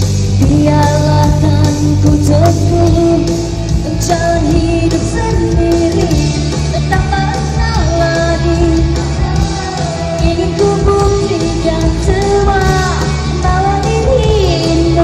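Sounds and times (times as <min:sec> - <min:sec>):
live rock band: 0:00.0 - 0:15.0
woman singing rock vocals: 0:00.0 - 0:15.0.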